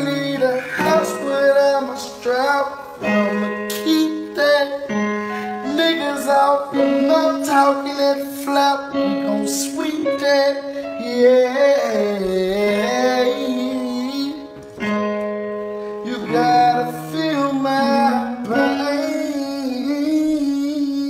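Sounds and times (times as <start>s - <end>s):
person singing long notes: 0.0s - 14.8s, 16.0s - 21.0s
musical backing: 0.0s - 21.0s.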